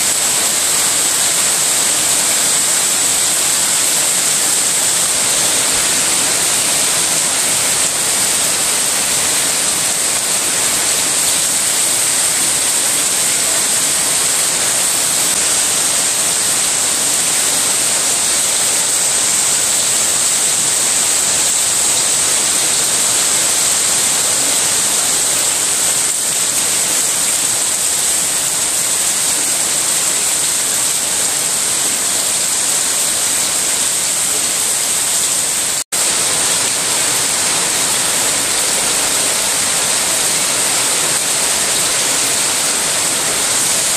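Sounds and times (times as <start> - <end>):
heavy rain on tiles and puddles: 0.0 - 43.9.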